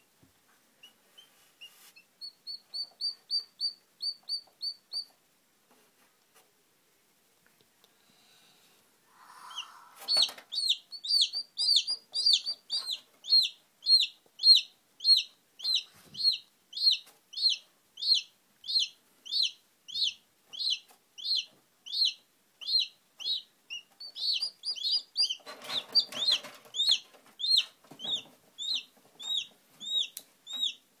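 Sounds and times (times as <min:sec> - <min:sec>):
chick peeping: 0:00.8 - 0:05.2, 0:09.1 - 0:30.9.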